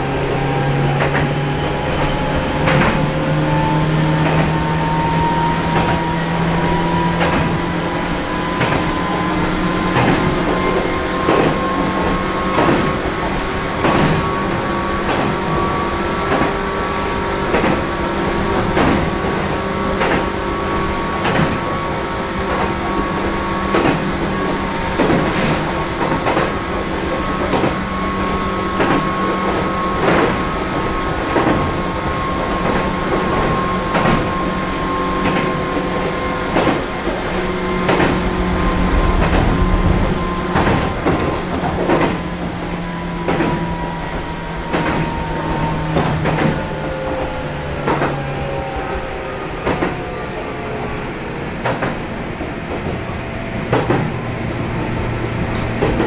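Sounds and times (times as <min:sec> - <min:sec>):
rail joint clicks: 0:00.0 - 0:15.6, 0:16.2 - 0:16.7, 0:17.4 - 0:56.0
electric train motor whine: 0:00.0 - 0:56.0.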